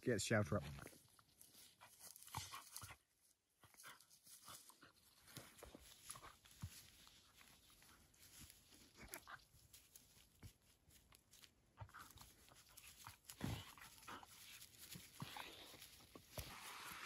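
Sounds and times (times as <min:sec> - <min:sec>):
dogs scuffling in dry grass: 0:00.7 - 0:17.0.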